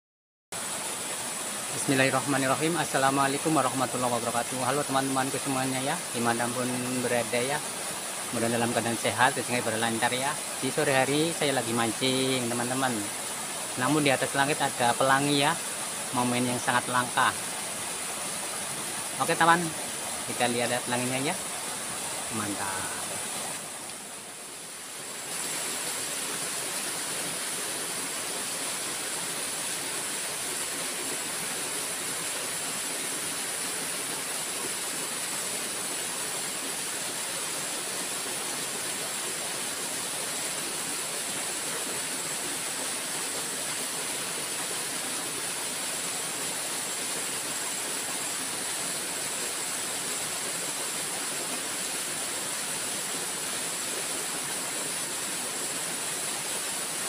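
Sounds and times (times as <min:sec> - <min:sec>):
river flowing over stones: 0:00.6 - 0:57.0
steady high hiss: 0:00.6 - 0:57.0.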